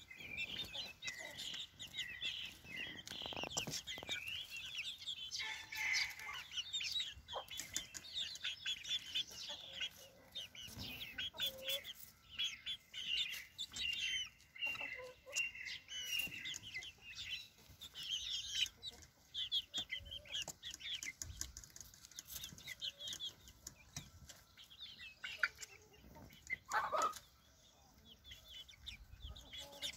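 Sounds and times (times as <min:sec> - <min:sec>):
young hens chirping: 0:00.0 - 0:29.9
hens pecking clicks and rustles: 0:00.1 - 0:28.0.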